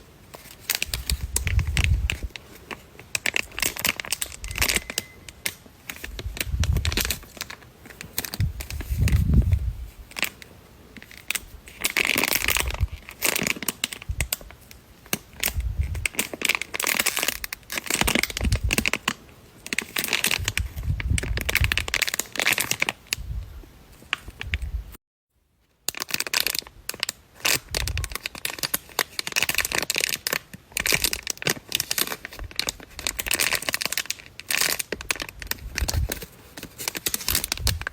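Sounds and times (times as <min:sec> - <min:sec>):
plastic packaging crinkling: 0:00.0 - 0:23.2, 0:25.8 - 0:37.9.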